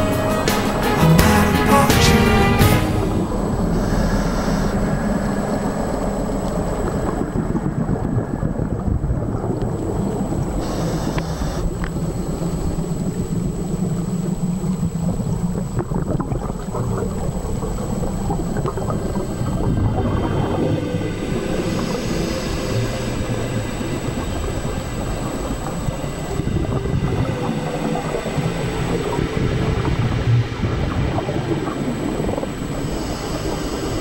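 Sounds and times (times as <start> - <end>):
scuba exhaust bubbles hissing: 2.4 - 34.0
low rumble of moving water: 2.8 - 34.0.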